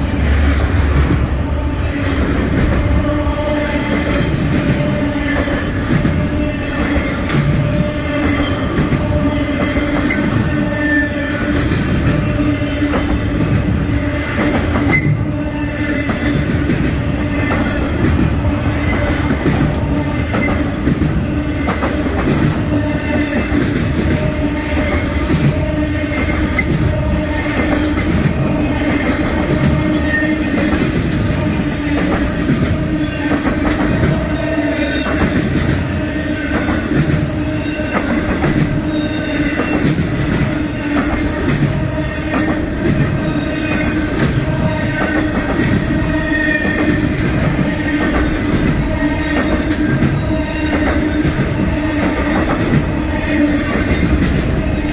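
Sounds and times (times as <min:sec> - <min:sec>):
freight train rumble: 0:00.0 - 0:54.9.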